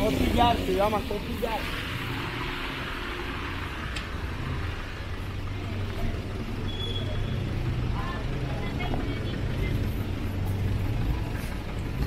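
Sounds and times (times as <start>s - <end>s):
traffic hiss: 0.0s - 12.0s
vehicle engines rumbling: 0.0s - 12.0s.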